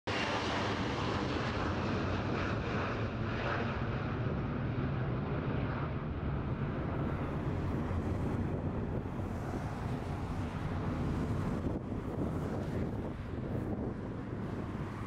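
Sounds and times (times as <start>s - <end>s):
jet engines rumbling: 0.1s - 15.0s.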